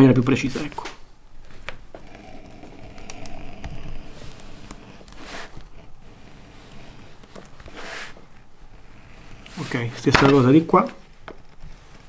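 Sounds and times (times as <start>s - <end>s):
edge groover scraping leather: 1.9s - 12.0s.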